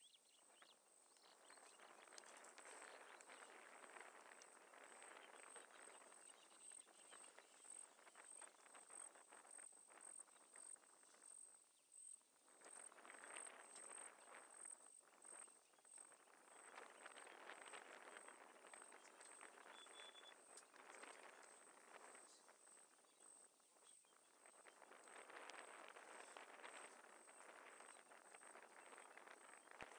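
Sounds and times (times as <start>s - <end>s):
small scattered crackles: 0.0s - 29.9s.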